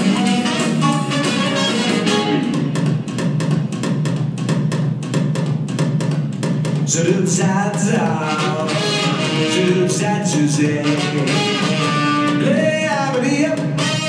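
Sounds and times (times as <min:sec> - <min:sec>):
drum kit fast beat: 0:00.0 - 0:14.0.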